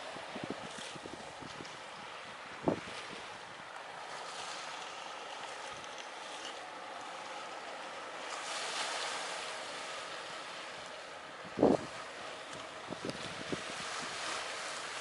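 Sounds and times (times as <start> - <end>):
sea waves at shore: 0.0 - 15.0
wind: 0.0 - 15.0.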